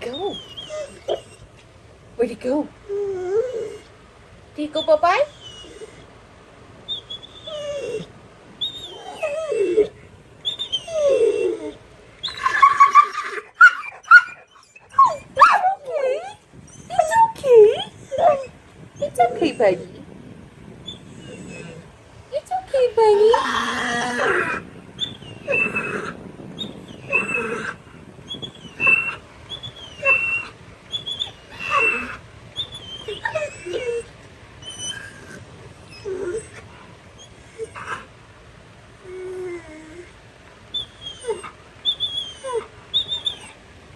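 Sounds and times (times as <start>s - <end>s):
dog whining vocalizations: 0.0s - 1.5s, 2.8s - 3.9s, 4.6s - 6.2s, 6.9s - 38.1s, 39.0s - 43.6s.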